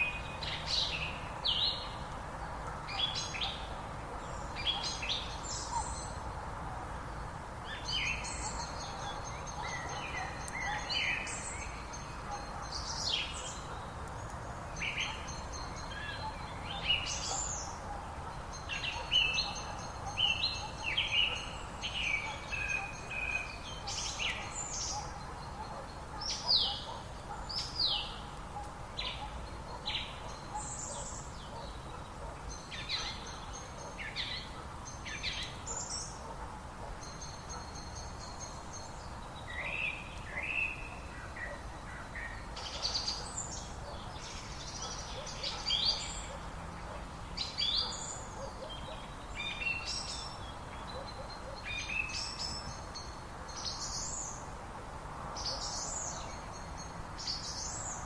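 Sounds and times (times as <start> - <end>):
songbirds singing and chirping: 0.0 - 58.0.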